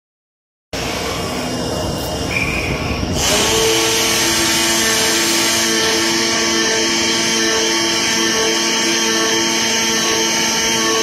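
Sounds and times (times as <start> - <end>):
motor whines: 0.8 - 11.0.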